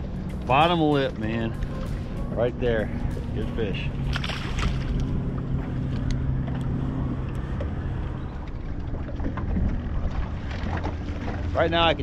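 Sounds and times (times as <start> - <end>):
boat motor humming: 0.0 - 12.0
wind and water rushing: 0.0 - 12.0.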